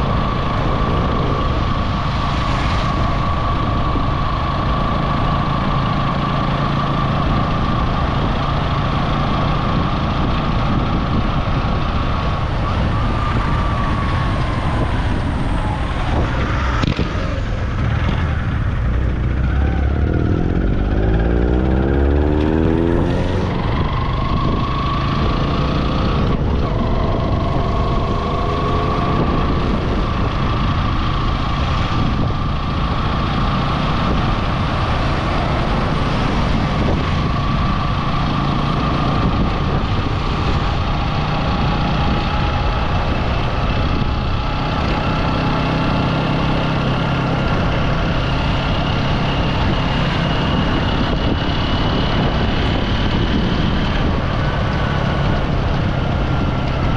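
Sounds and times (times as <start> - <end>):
road and wind noise: 0.0 - 56.9
vehicle engine running: 0.0 - 56.9.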